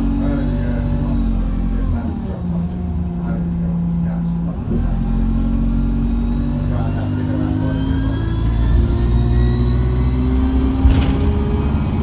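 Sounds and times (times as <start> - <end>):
bus diesel engine accelerating: 0.0 - 12.0
turbocharger whine: 0.0 - 12.0.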